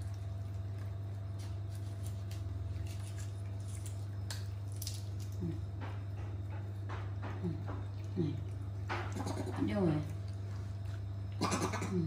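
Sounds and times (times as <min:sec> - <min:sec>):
low electrical hum: 0:00.0 - 0:12.0
monkeys eating fruit squishing: 0:00.0 - 0:12.0.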